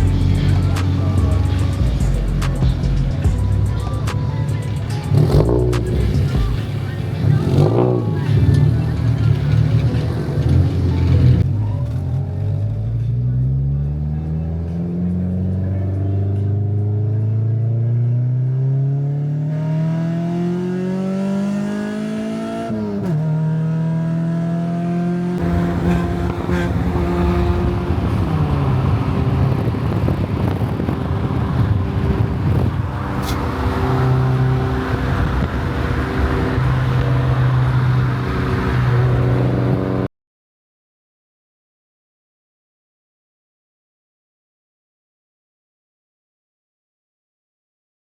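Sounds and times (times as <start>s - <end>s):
car engine accelerating: 0.0s - 40.1s
road and wind noise: 0.0s - 40.1s.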